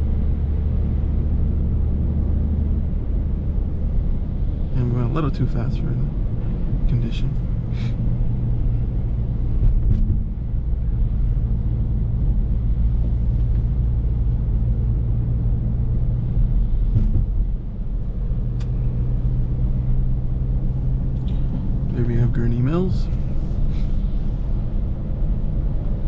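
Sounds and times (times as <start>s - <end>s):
car engine drone from inside: 0.0s - 26.0s.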